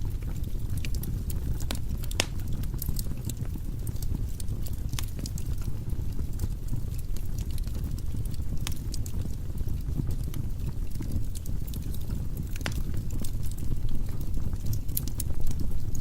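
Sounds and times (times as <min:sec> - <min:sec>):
burning logs crackling: 0:00.0 - 0:16.0
low rumble of flames: 0:00.0 - 0:16.0.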